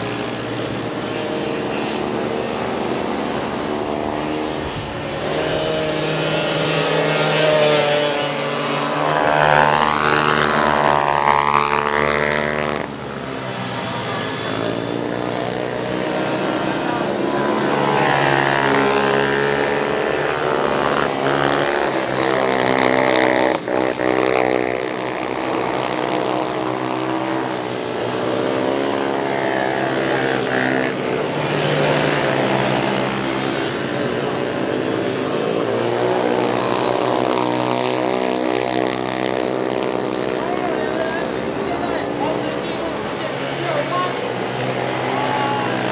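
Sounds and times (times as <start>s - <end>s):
small engines revving: 0.0s - 45.9s.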